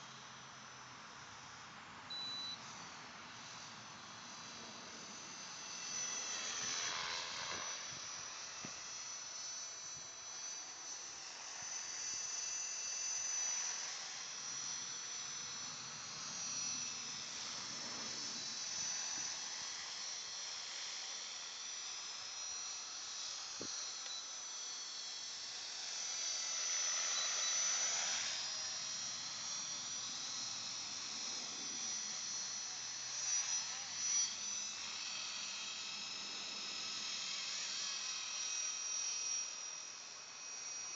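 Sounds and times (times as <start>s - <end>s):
model aircraft electric motor whine: 0.0s - 40.9s.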